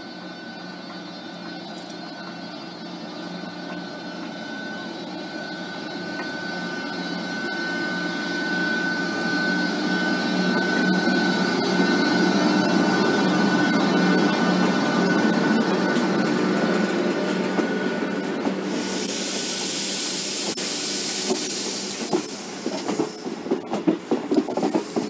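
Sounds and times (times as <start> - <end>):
electric locomotive humming and whining: 0.0 - 25.0.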